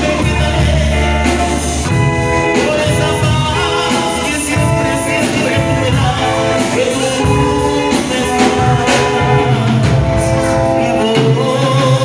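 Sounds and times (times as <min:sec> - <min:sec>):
drum kit: 0:00.0 - 0:12.0
electric bass: 0:00.0 - 0:12.0
electric guitar: 0:00.0 - 0:12.0
keyboards: 0:00.0 - 0:12.0
person singing: 0:00.0 - 0:12.0.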